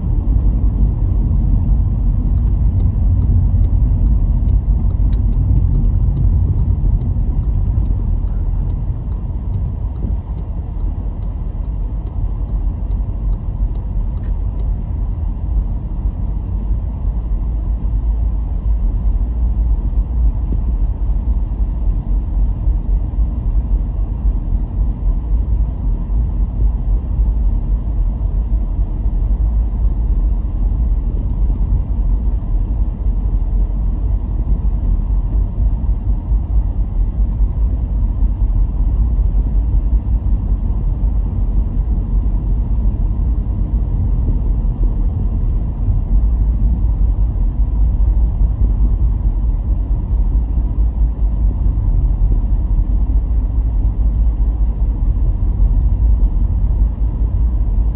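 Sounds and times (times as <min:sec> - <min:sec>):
car driving on road: 0:00.0 - 0:57.9.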